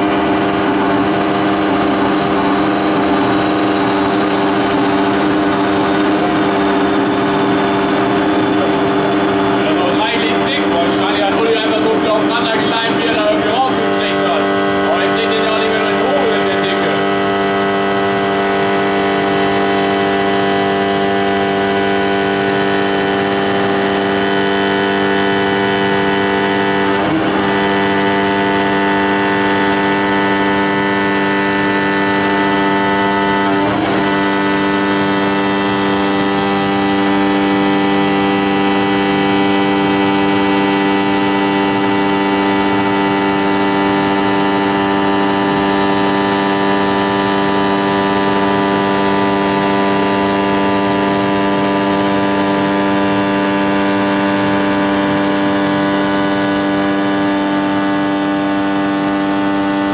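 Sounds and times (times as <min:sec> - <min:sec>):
woodworking machine droning: 0:00.0 - 0:59.9.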